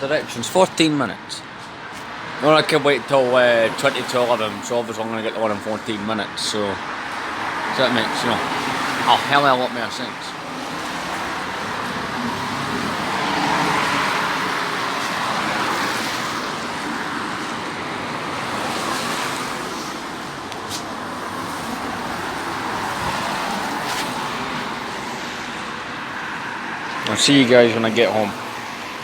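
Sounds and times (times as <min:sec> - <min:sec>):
cars passing: 0:00.0 - 0:29.0
steady traffic hum: 0:00.0 - 0:29.0.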